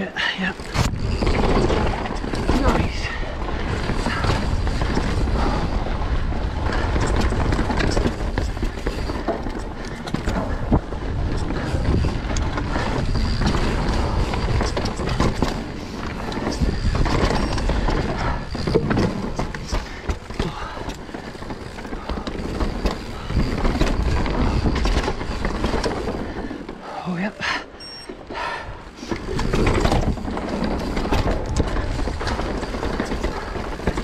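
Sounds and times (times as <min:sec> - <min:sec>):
bike rattling and knocking: 0:00.2 - 0:27.0, 0:28.1 - 0:34.0
bike tyres rolling over dirt: 0:00.2 - 0:27.0, 0:28.2 - 0:34.0.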